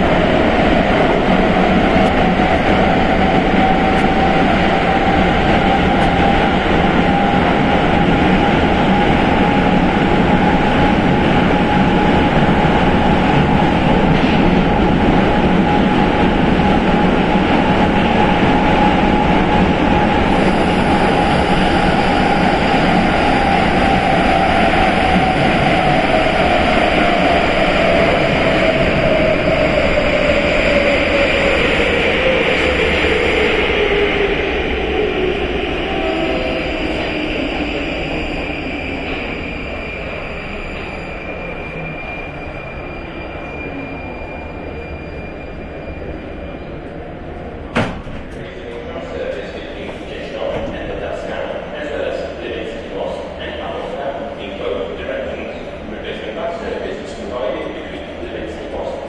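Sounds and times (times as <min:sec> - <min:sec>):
train wheel and running noise: 0:00.0 - 0:59.0.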